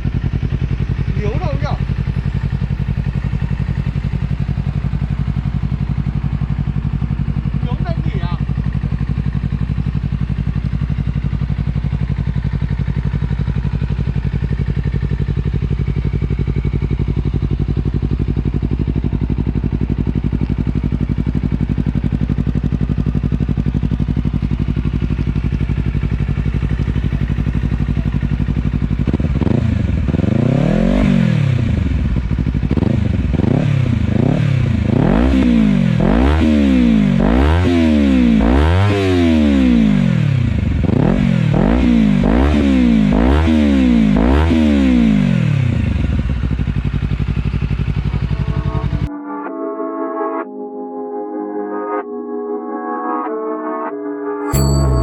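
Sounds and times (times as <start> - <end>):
motorcycle engine idling and revving: 0.0 - 49.1, 54.5 - 55.0.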